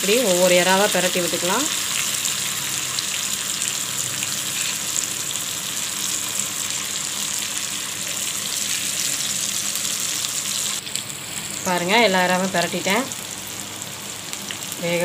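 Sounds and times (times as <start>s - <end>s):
prawns sizzling in oil: 0.0s - 15.0s.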